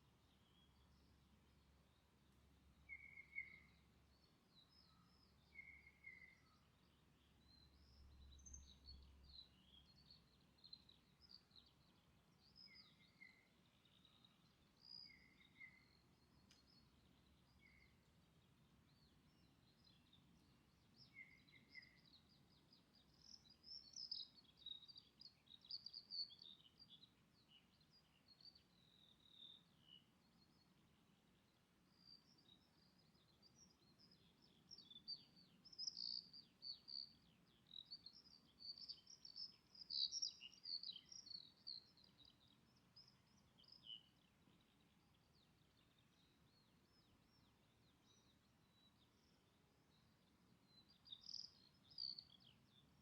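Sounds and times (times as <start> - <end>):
faint outdoor hum: 0.0 - 53.0
birds twittering and chirping: 0.1 - 53.0.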